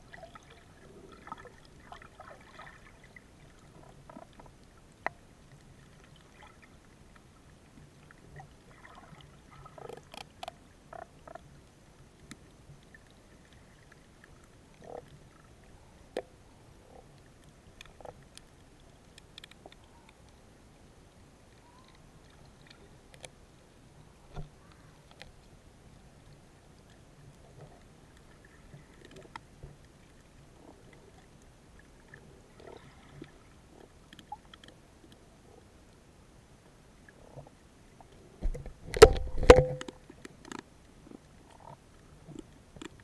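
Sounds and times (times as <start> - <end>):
underwater water bubbling: 0.0 - 36.1, 37.0 - 43.0.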